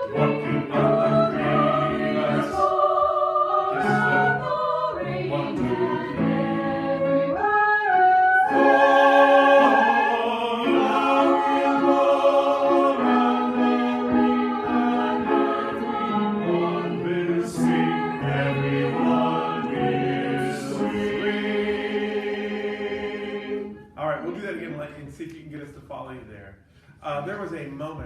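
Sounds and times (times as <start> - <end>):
choir singing chords: 0.0 - 24.0.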